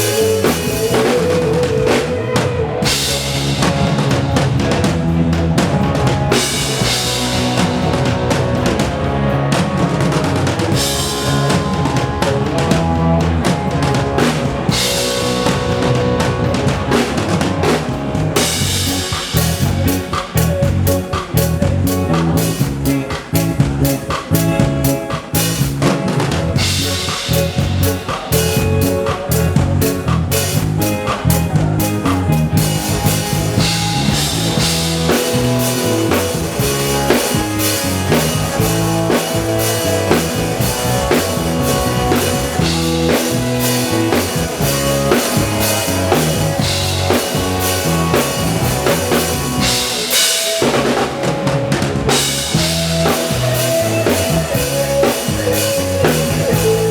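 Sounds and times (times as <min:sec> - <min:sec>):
drum kit beat: 0:00.0 - 0:56.9
live band playing: 0:00.0 - 0:56.9.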